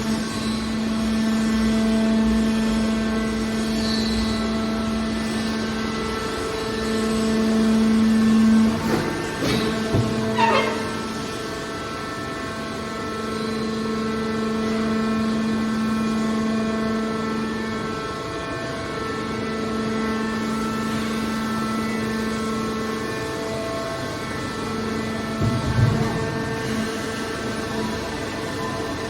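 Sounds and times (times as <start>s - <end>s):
hydraulic baler droning hum: 0.0s - 29.0s.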